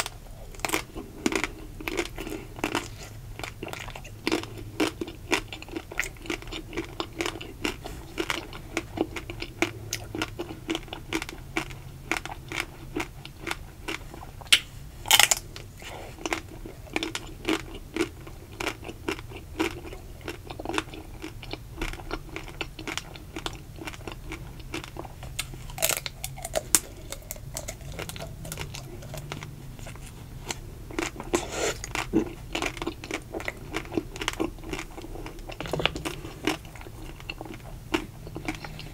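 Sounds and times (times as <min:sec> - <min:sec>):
chocolate shell crunching: 0:03.6 - 0:38.9.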